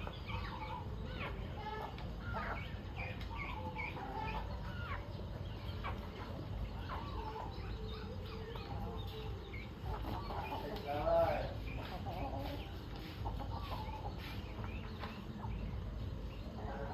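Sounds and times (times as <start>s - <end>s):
chickens clucking: 0.0s - 16.9s.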